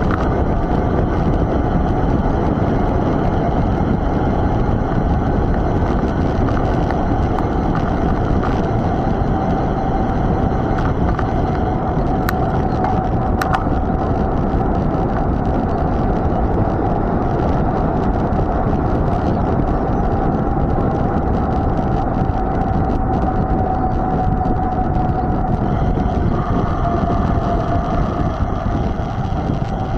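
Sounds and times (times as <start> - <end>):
bike tyres rolling: 0.0 - 29.9
steady hum: 0.0 - 29.9
wind on microphone: 0.0 - 29.9.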